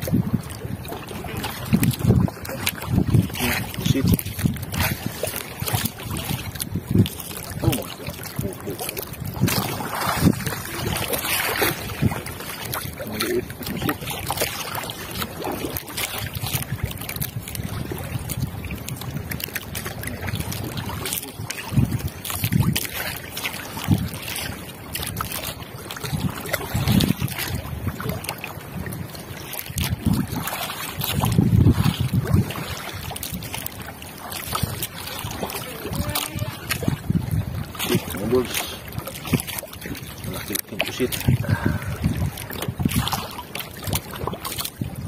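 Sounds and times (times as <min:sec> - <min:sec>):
water lapping against boat hull: 0:00.0 - 0:45.0
wind on microphone: 0:00.0 - 0:45.0.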